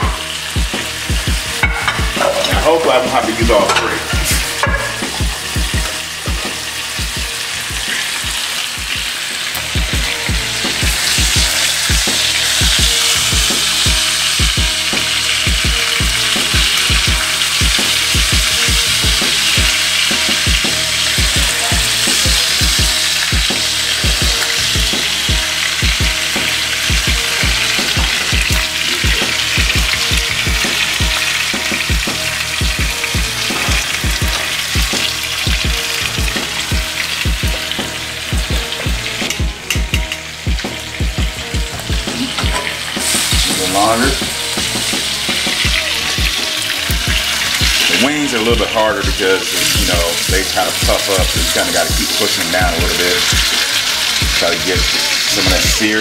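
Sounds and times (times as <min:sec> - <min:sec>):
chicken sizzling in skillet: 0:00.0 - 0:56.0.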